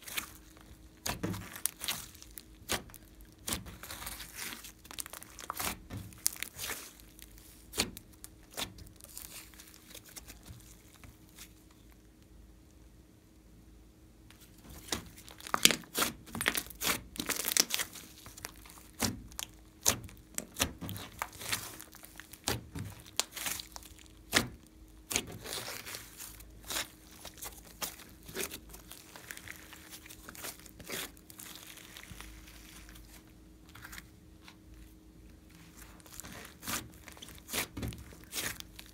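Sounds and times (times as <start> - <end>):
hands squishing slime: 0.0 - 12.0, 14.3 - 34.1, 35.3 - 38.9.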